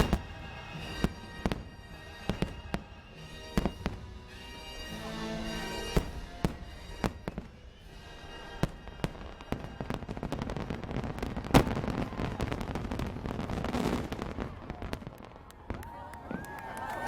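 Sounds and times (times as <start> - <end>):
music: 0.0 - 14.4.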